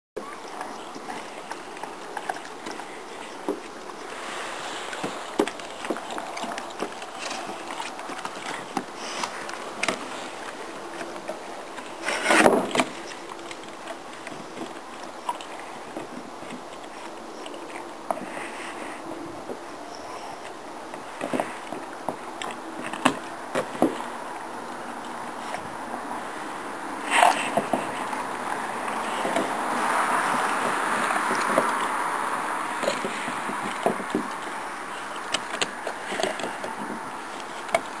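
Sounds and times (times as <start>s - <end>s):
dog gnawing wooden stick: 0.3s - 38.0s.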